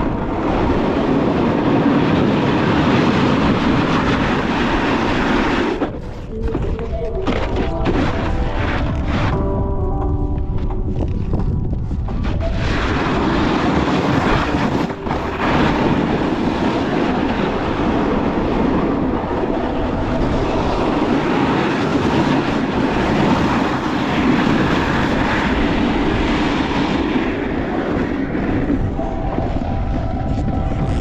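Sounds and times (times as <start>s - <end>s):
dense rushing noise: 0.0s - 6.4s, 10.7s - 31.0s.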